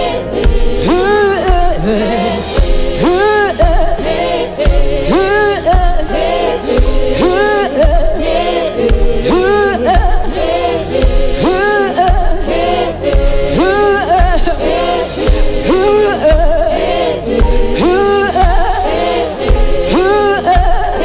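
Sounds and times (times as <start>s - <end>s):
person singing: 0.0s - 12.8s, 13.6s - 21.0s
band with deep beat: 0.0s - 21.0s.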